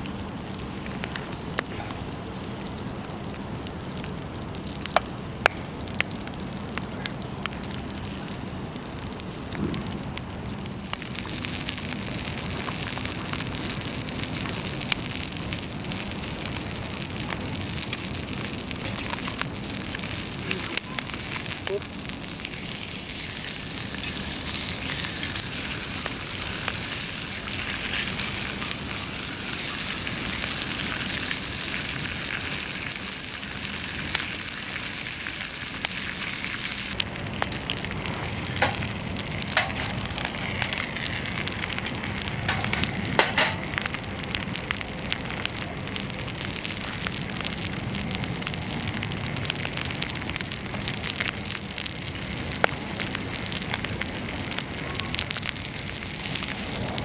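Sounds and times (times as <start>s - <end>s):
sharp pops and crackles: 0.0s - 57.0s
meat sizzling on a griddle: 3.2s - 57.0s.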